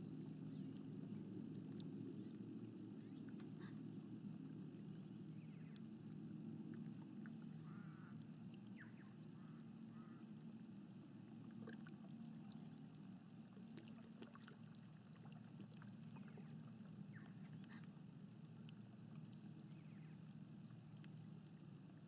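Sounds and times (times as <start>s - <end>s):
water lapping: 0.4s - 22.0s.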